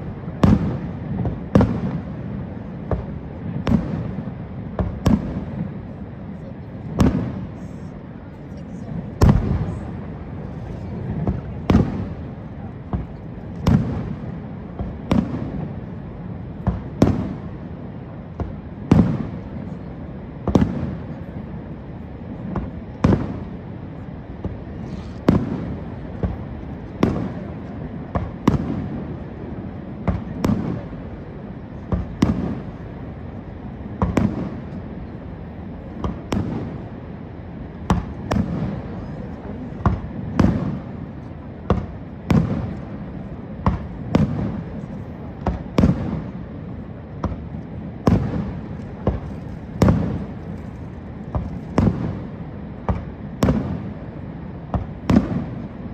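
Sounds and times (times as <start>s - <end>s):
fireworks bursting with echo: 0.0s - 55.9s
steady low rumble: 0.0s - 55.9s.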